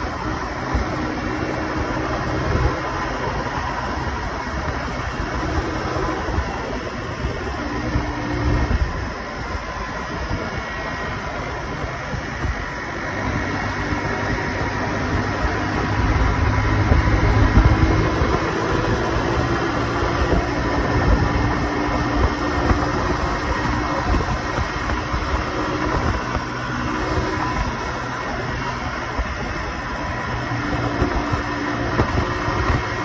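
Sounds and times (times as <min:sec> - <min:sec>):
motorcycle engine cruising: 0:00.0 - 0:33.0
wind noise: 0:00.0 - 0:33.0.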